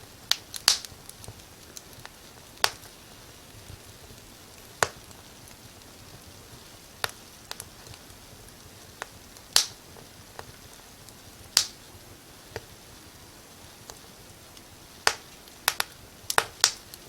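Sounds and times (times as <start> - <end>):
faint steady hiss: 0.0 - 17.0
firewood crackling and popping: 0.0 - 17.0.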